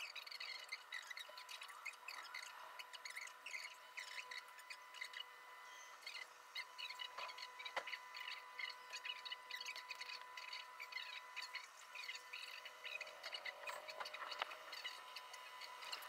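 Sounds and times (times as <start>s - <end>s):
small birds chirping: 0.0s - 16.0s
thin steady tone: 0.0s - 16.0s.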